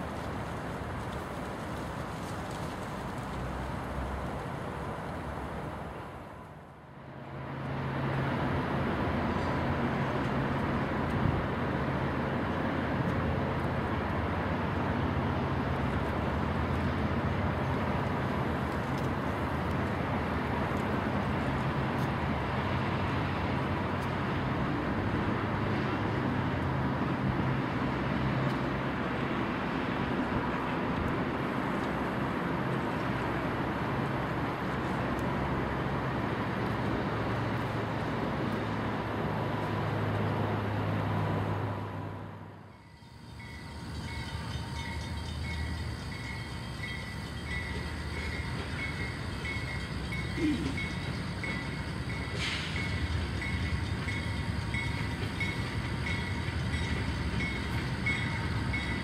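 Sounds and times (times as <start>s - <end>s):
train rumbling over bridge: 0.0s - 59.0s.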